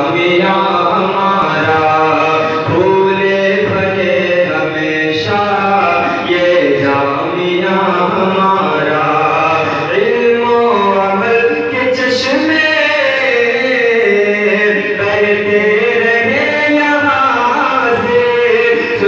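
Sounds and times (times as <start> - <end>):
man singing chant-like melody: 0.0 - 19.0.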